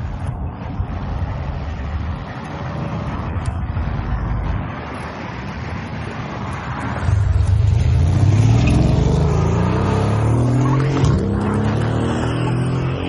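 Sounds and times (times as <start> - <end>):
car engines rumbling: 0.0 - 13.0
traffic noise: 0.0 - 13.0.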